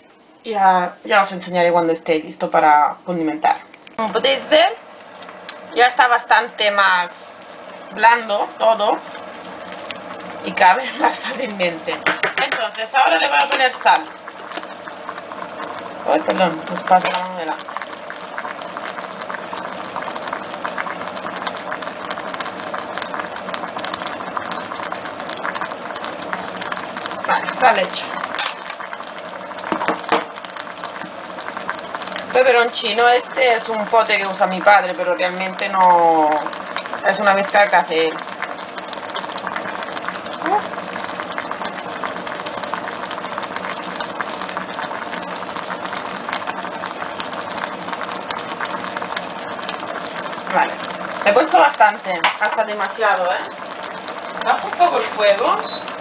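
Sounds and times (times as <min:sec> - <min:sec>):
faint steady hum: 0:00.0 - 0:56.0
stew bubbling in a pot: 0:00.2 - 0:56.0.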